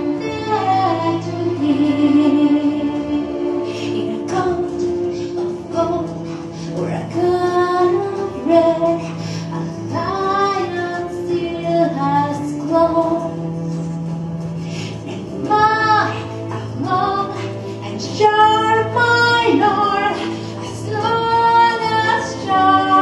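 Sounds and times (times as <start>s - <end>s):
woman singing into a microphone: 0.0s - 13.5s, 15.0s - 23.0s
instrumental accompaniment: 0.0s - 23.0s.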